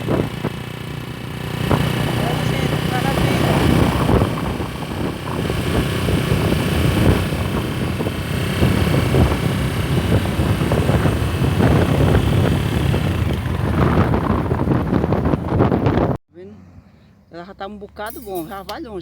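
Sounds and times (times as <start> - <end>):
wind buffeting microphone: 0.0 - 16.2
vehicle rumbling along road: 0.0 - 19.0.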